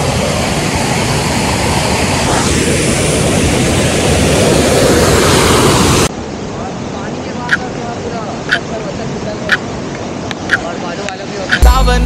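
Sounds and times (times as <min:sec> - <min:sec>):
waterfall and rapids rushing: 0:00.0 - 0:12.0.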